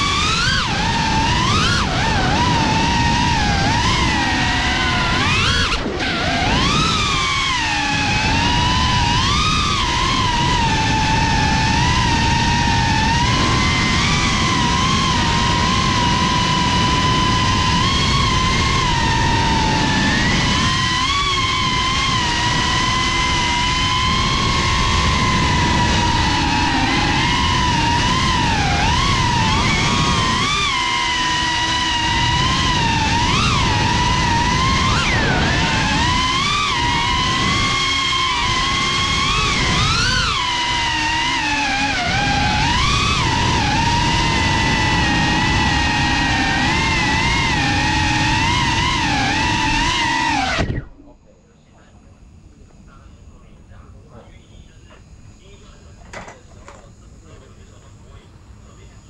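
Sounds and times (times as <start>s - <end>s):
rush of propeller wash: 0.0s - 50.8s
drone motors whining: 0.0s - 59.0s.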